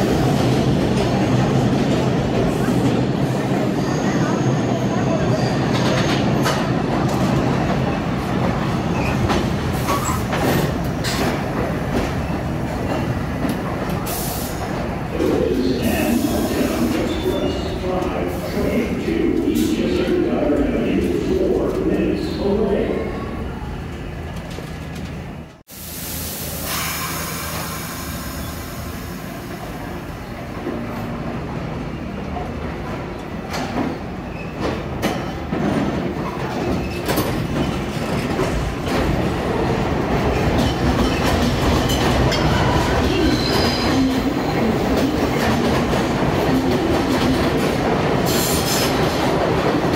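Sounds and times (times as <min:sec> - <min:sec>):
subway train rumble: 0:00.0 - 0:49.9
train rail noise: 0:00.0 - 0:49.9.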